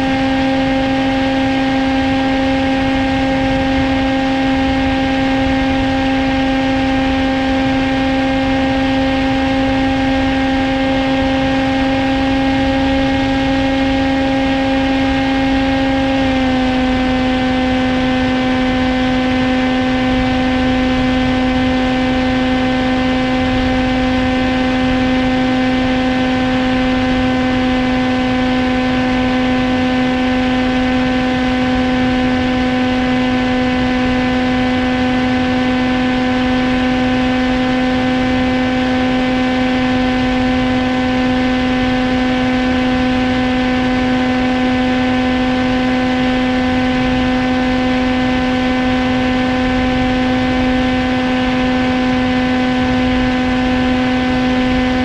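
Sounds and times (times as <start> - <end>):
electric motor and propeller whine: 0.0 - 55.0
wind noise: 0.0 - 55.0.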